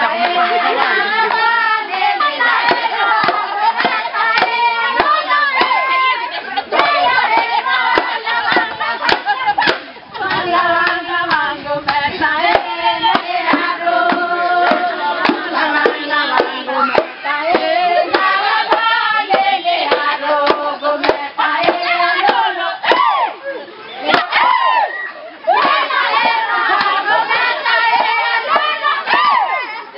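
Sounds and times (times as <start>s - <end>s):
women singing a chant: 0.0s - 29.9s
hands clapping a beat: 0.1s - 0.6s, 2.2s - 6.0s, 6.7s - 23.0s, 25.6s - 29.3s.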